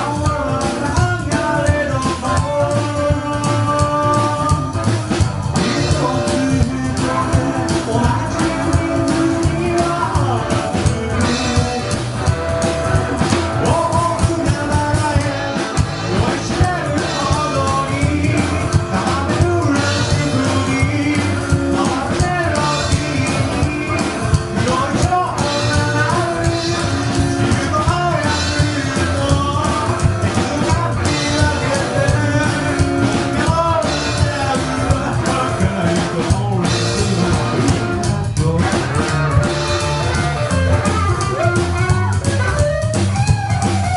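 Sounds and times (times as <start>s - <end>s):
person singing: 0.0s - 43.9s
rockabilly band playing live: 0.0s - 43.9s.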